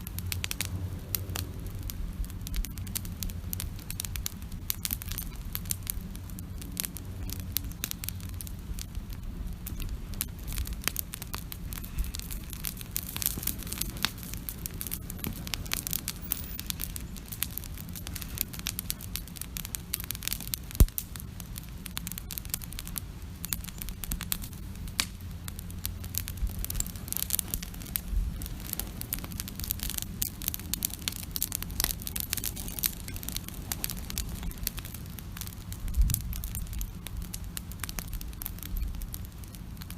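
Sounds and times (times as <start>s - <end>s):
low steady rumble: 0.0s - 39.9s
wood campfire crackling: 0.0s - 39.9s.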